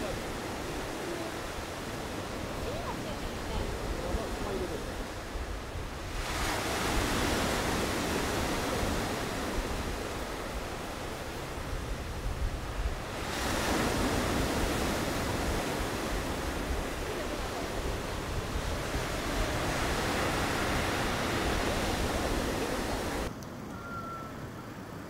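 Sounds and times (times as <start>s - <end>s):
ocean surf breaking: 0.0s - 23.7s.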